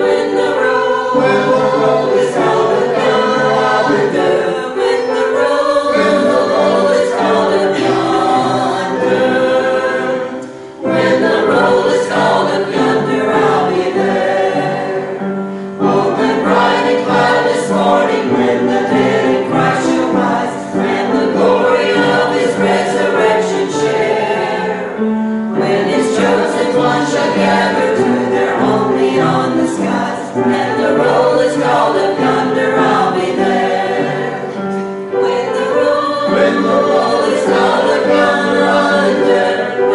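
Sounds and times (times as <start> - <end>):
small choir singing: 0.0 - 39.9.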